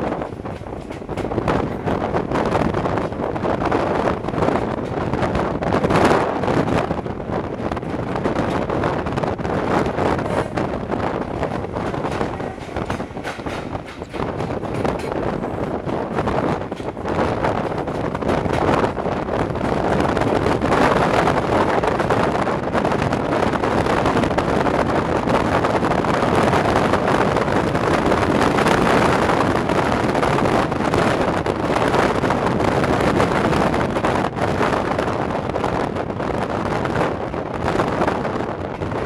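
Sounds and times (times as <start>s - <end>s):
train rumbling along track: 0.0s - 39.0s
wind rushing over microphone: 0.0s - 39.0s.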